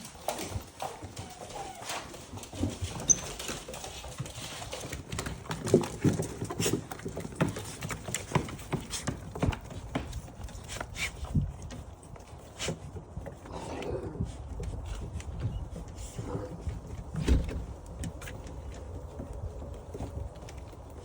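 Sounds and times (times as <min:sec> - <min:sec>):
puppy paws clicking on floor: 0:00.0 - 0:21.0.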